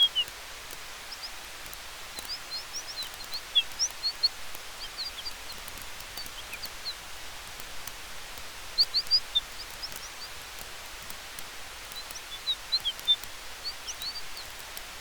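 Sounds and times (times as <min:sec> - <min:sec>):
faint campfire crackling: 0:00.0 - 0:15.0
small birds chirping: 0:00.0 - 0:15.0
steady hiss: 0:00.0 - 0:15.0.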